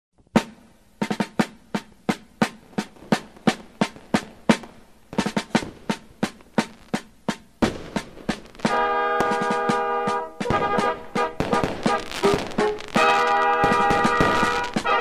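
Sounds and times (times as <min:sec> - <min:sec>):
solo snare drum beat: 0:00.3 - 0:15.0.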